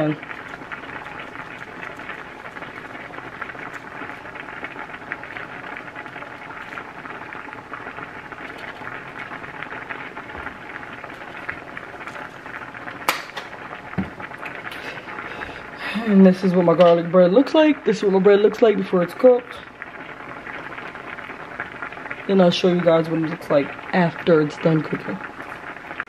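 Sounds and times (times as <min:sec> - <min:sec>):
pot sizzling and bubbling: 0:00.0 - 0:26.0.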